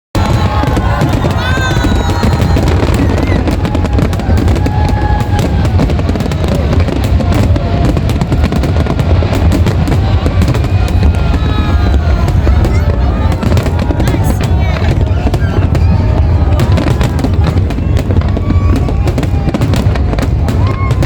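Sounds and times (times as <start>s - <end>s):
fireworks bangs and crackles: 0.2s - 21.0s.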